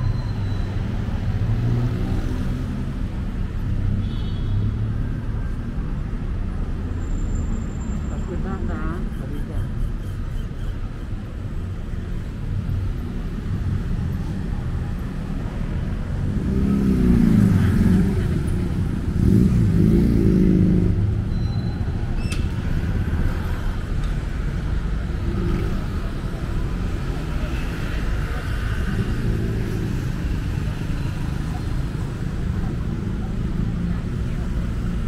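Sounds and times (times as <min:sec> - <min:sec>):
traffic engine rumble: 0:00.0 - 0:35.0
vehicles passing: 0:00.0 - 0:35.0.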